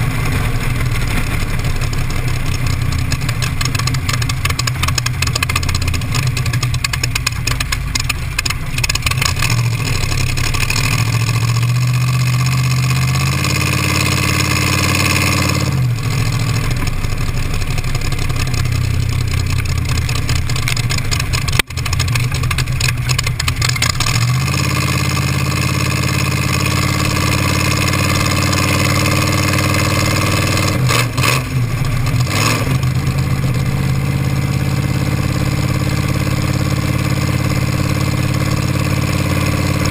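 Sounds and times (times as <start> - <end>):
hot rod engine running: 0.0 - 39.9.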